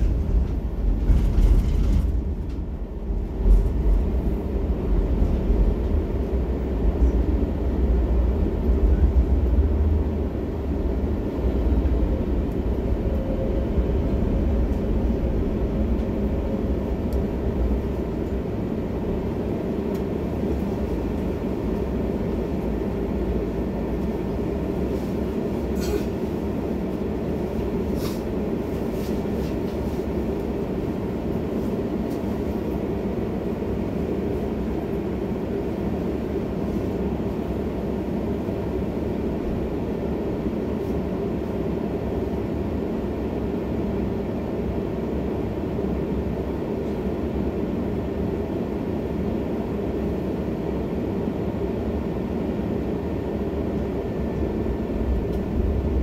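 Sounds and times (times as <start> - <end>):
tram rumble and hum: 0.0 - 56.0.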